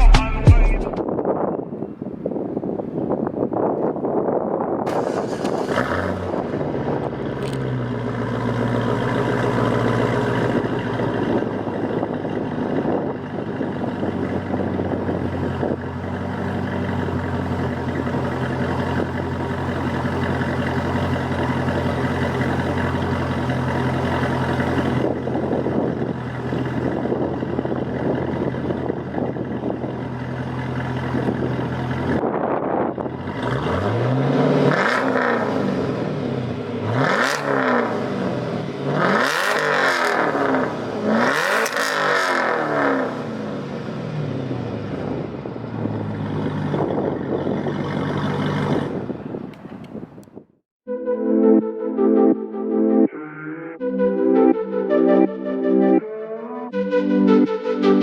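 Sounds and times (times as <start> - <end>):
car engine idling and revving: 2.6 - 50.5.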